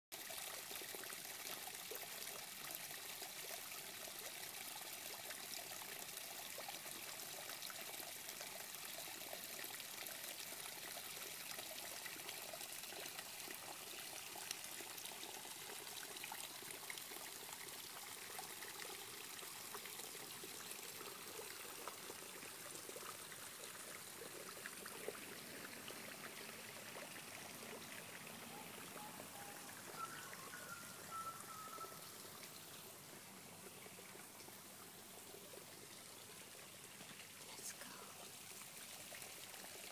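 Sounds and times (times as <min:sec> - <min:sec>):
small waterfall splashing into pond: 0:00.1 - 0:39.9.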